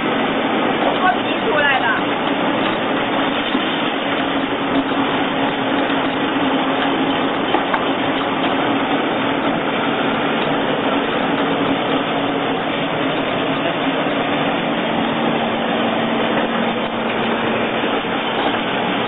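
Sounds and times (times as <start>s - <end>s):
grinding machine droning: 0.0s - 19.0s.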